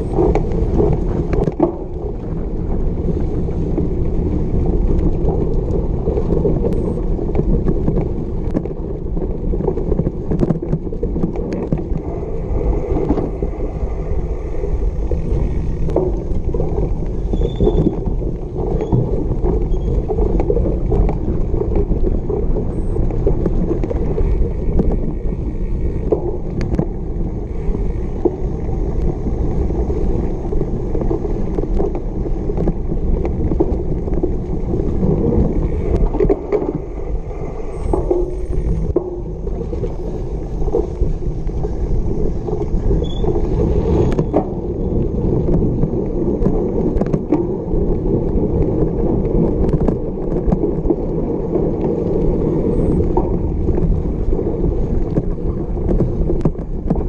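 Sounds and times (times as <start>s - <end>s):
bike rumbling and rattling: 0.0s - 57.0s.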